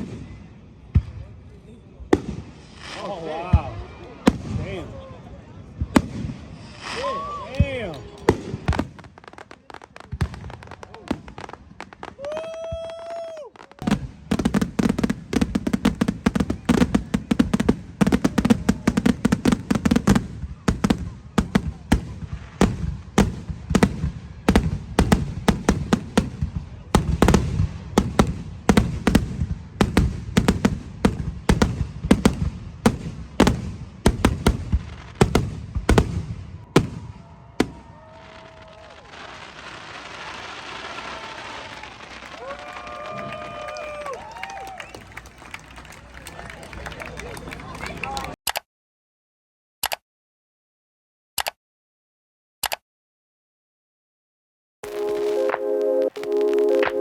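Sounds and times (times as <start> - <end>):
fireworks bangs and crackles: 0.0 - 45.3, 54.8 - 57.0.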